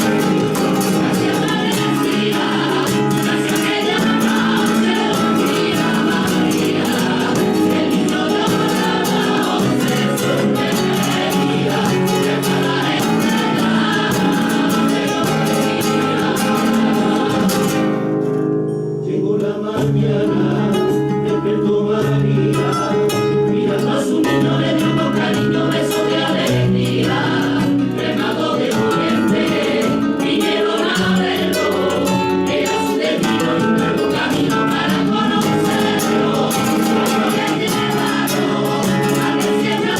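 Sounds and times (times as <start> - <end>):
choir singing a carol: 0.0 - 18.2, 18.9 - 39.9.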